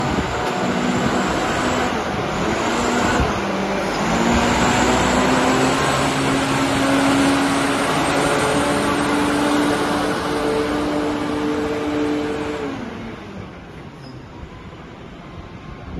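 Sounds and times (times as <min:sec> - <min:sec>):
diesel engine droning: 0:00.0 - 0:15.9.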